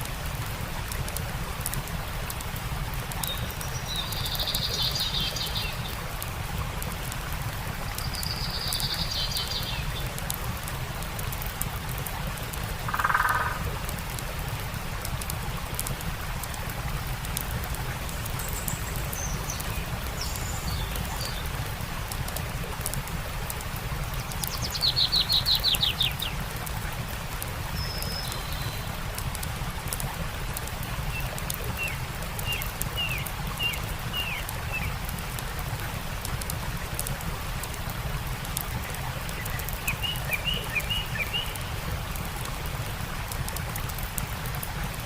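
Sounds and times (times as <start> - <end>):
campfire crackling faintly: 0.0 - 45.0
stream rushing: 0.0 - 45.0.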